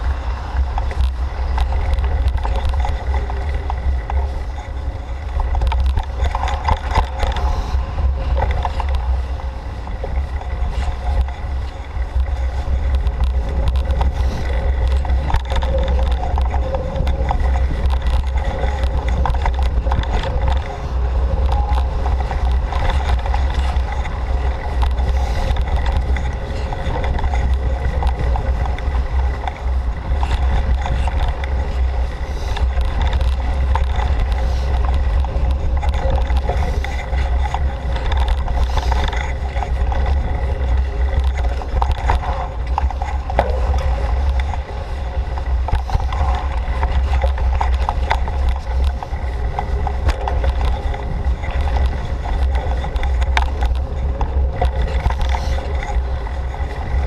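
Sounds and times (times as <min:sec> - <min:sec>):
bike rattling over bumps: 0:00.0 - 0:57.0
wind and tyres rumbling: 0:00.0 - 0:57.0.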